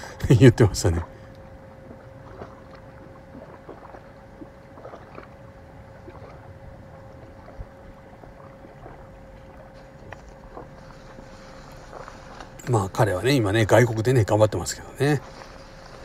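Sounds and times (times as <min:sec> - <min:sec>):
wind rumble on microphone: 0:00.0 - 0:14.1
faint steady hum: 0:00.0 - 0:16.0
water lapping: 0:00.0 - 0:16.0.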